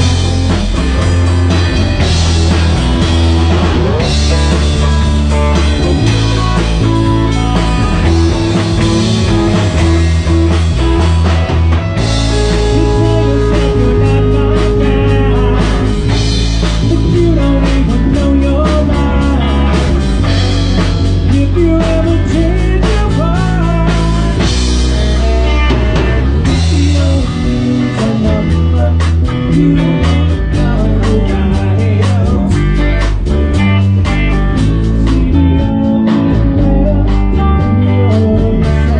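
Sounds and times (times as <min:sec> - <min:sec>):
bass: 0:00.0 - 0:38.9
drum kit beat: 0:00.0 - 0:38.9
electric guitar: 0:00.0 - 0:38.9.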